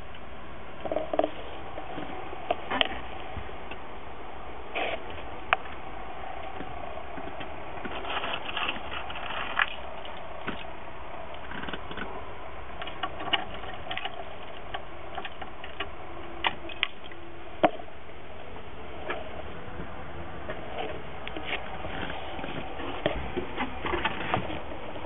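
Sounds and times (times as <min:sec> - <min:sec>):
engine low rumble: 0:00.0 - 0:25.0.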